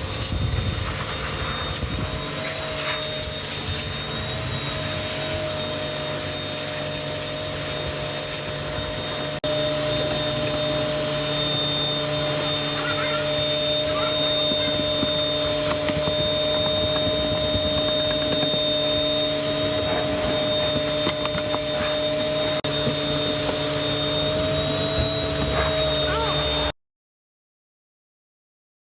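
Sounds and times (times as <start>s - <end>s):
vacuum cleaner motor running: 0.0s - 26.7s.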